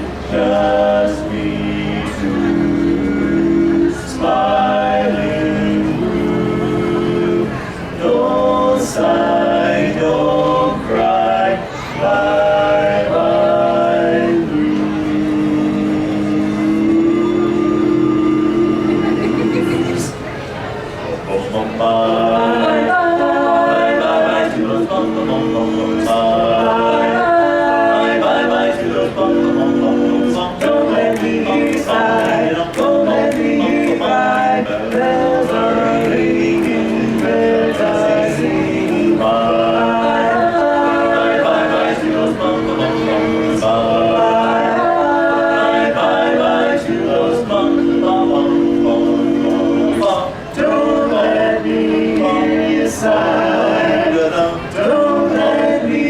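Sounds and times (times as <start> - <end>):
male vocal quartet singing harmony: 0.0 - 20.3, 21.2 - 56.0.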